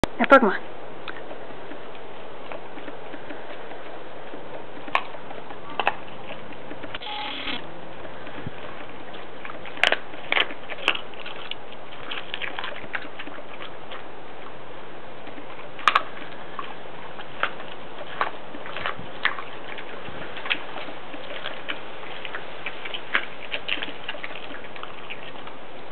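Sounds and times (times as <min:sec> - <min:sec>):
dog crunching fish bones: 0:01.0 - 0:25.9.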